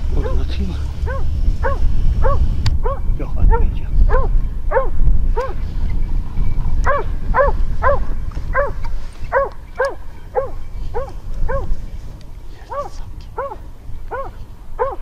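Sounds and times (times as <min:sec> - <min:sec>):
low rumble of wind: 0:00.0 - 0:15.0
dog barking: 0:00.2 - 0:05.6, 0:06.8 - 0:11.8, 0:12.7 - 0:15.0.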